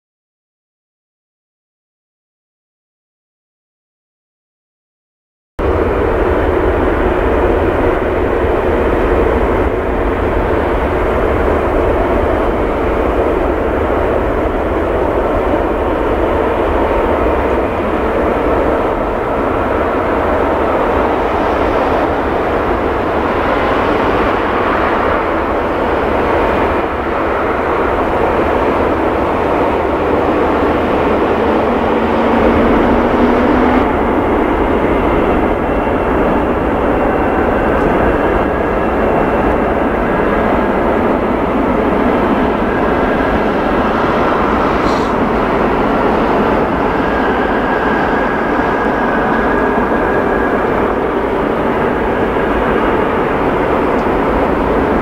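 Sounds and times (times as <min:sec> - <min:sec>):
jet engines rumbling at taxi power: 0:05.6 - 0:55.0.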